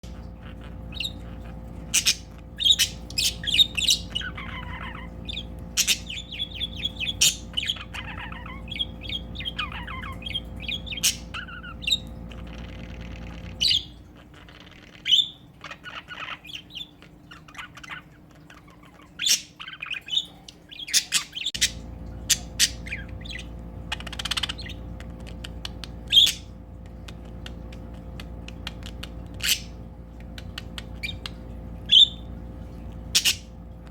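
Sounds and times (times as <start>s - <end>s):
budgerigars chirping and squawking: 0.0s - 33.6s.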